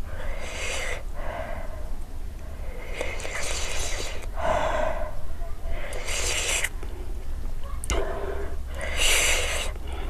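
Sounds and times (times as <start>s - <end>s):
steady low hum: 0.0s - 10.0s
woman breathing noisily: 0.0s - 10.0s.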